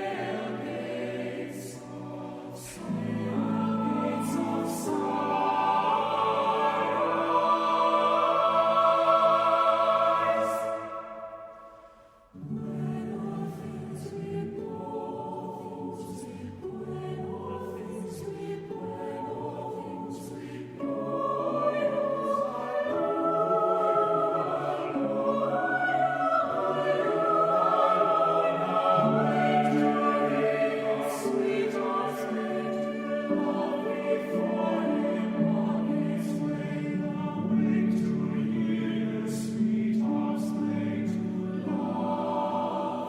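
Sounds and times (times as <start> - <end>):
slow choral music: 0.0 - 43.0.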